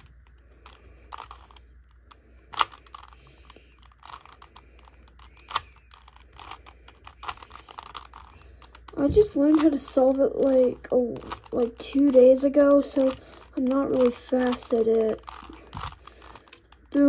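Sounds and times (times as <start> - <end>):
plastic puzzle cube clicking: 0.0 - 17.0.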